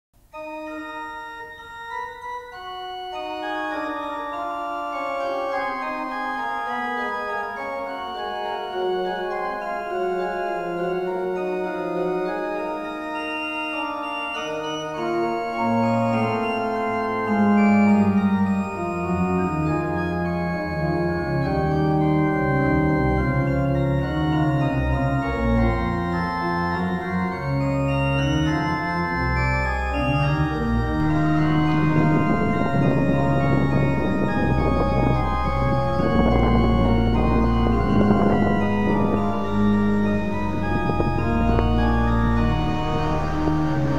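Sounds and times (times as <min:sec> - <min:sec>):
organ playing slow chords: 0:00.2 - 0:43.9
deep organ bass notes: 0:00.4 - 0:43.9.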